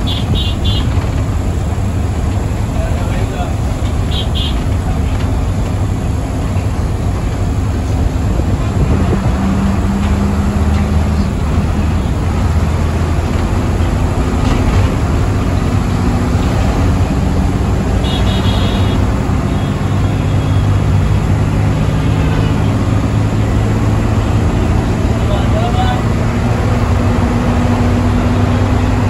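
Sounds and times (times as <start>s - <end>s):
bus diesel engine running: 0.0s - 29.0s
road noise: 0.0s - 29.0s.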